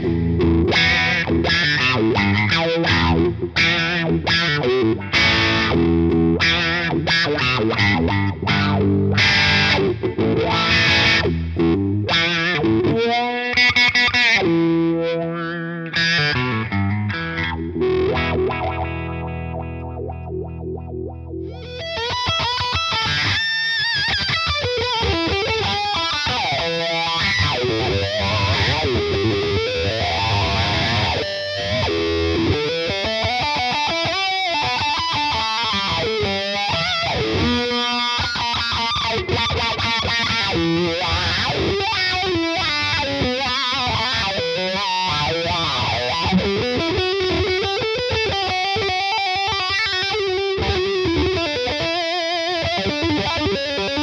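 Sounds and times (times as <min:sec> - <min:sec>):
electric guitar with wah pedal: 0:00.0 - 0:54.0.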